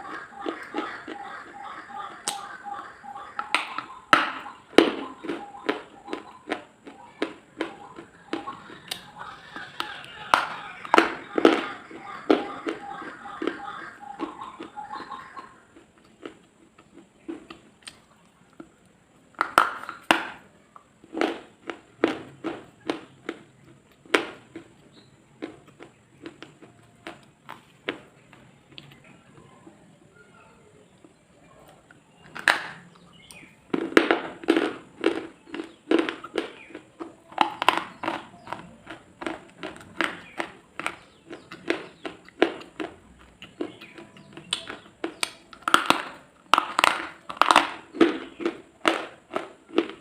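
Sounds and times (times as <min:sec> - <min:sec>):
crisp crunching and clicking: 0:03.4 - 0:29.5, 0:30.9 - 0:50.0.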